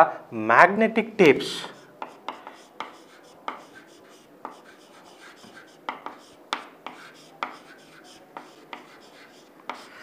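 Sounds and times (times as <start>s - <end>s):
chalk writing on chalkboard: 1.5s - 10.0s.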